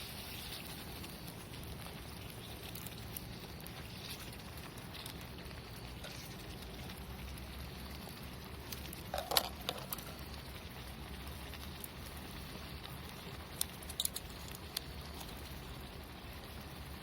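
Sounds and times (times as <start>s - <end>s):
sharp fire pops: 0.0s - 15.8s
campfire crackling: 0.0s - 17.0s.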